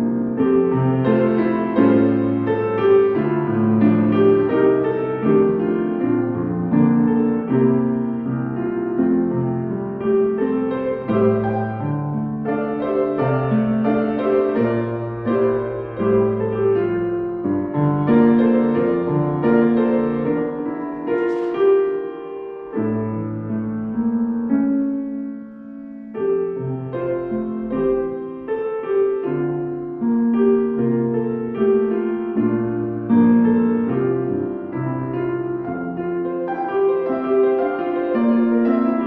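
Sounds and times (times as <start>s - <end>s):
gentle piano piece: 0.0s - 39.0s.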